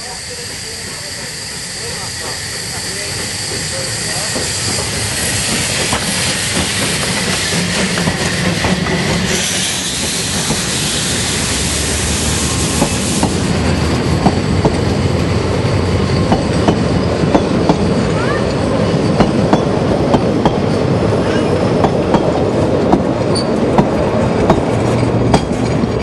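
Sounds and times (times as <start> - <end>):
steam locomotive hissing: 0.0 - 26.0
train coaches rumbling: 0.0 - 26.0.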